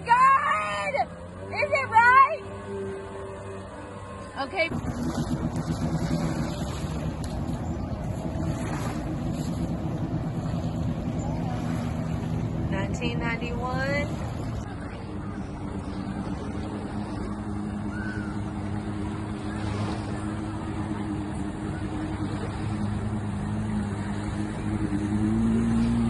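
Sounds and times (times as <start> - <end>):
jet ski engine running: 0.0 - 26.0.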